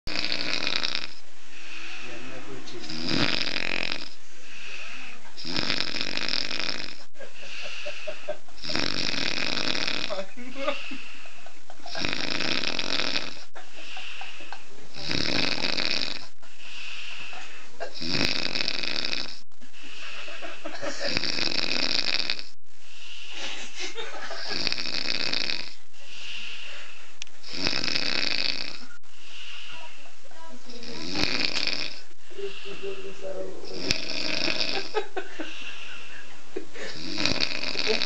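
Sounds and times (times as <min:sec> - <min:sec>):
person snoring heavily: 0:00.1 - 0:23.6, 0:24.2 - 0:30.0, 0:30.7 - 0:38.0.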